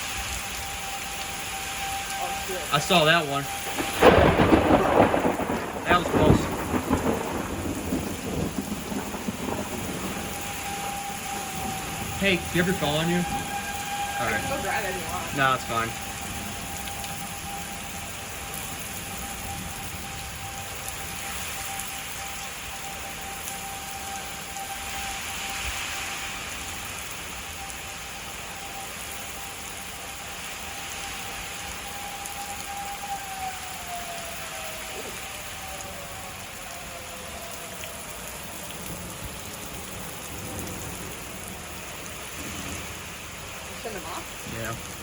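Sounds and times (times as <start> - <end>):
warning siren winding down: 0.0 - 44.8
steady rain: 0.0 - 45.0.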